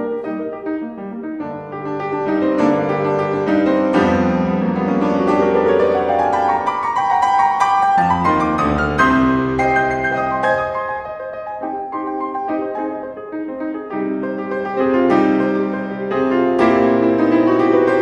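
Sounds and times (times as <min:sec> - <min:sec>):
solo grand piano: 0:00.0 - 0:18.0.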